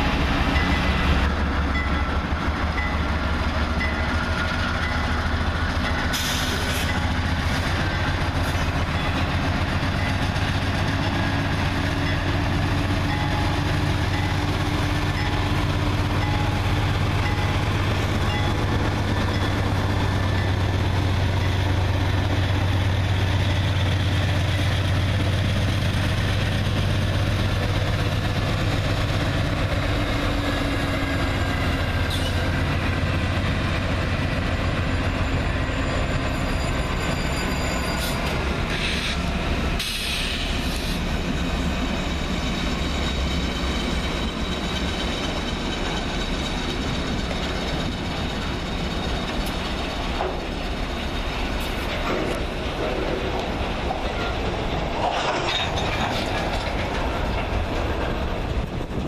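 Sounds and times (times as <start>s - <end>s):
locomotive engine drone: 0.0s - 59.0s
wheel and rail noise: 0.0s - 59.0s.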